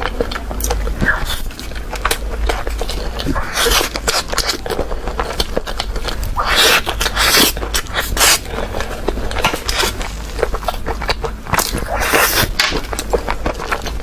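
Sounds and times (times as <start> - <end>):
wet chewing and lip smacking: 0.0 - 14.0.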